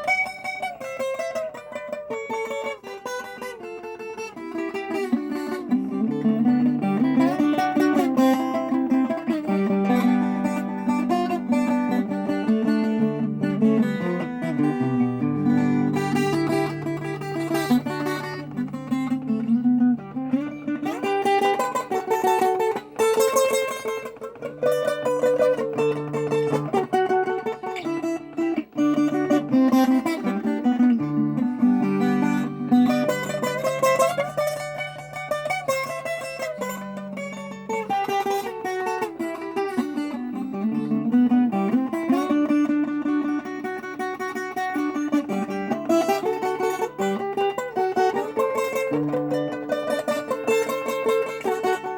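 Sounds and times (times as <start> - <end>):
fingerpicked guitar melody: 0.0 - 51.9.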